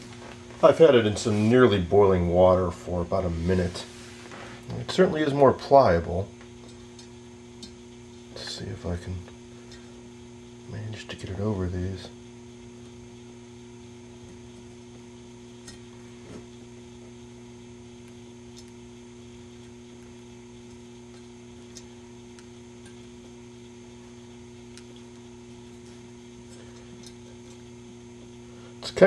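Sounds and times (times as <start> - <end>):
low electrical mains hum: 0.0 - 29.0.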